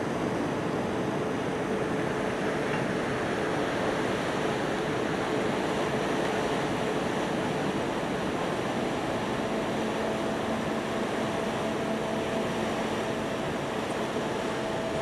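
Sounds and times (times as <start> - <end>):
faint steady hum: 0.0 - 15.0
wind: 0.0 - 15.0
ship machinery: 0.1 - 15.0.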